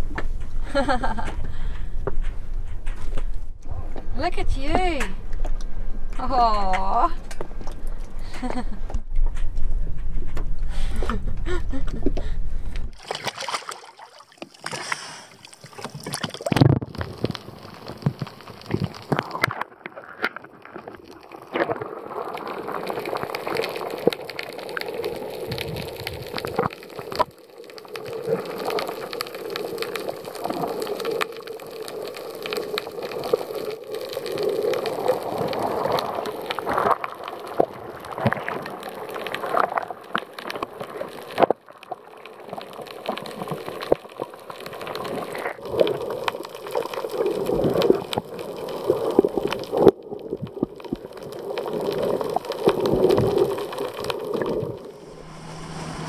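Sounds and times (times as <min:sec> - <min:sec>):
muffled underwater water noise: 0:00.0 - 0:56.0
small clicks and crackles: 0:04.7 - 0:12.8, 0:14.4 - 0:55.0.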